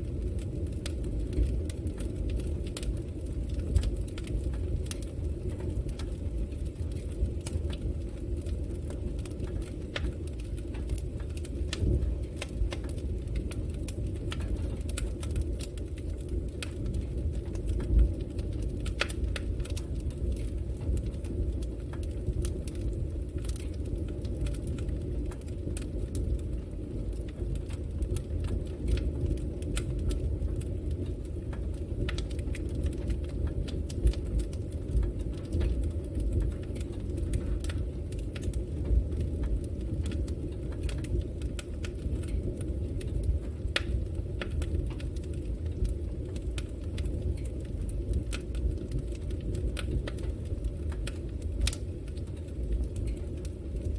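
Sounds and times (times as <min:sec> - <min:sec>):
fire crackling and popping: 0:00.0 - 0:53.9
fire rumbling in a fireplace: 0:00.0 - 0:53.9.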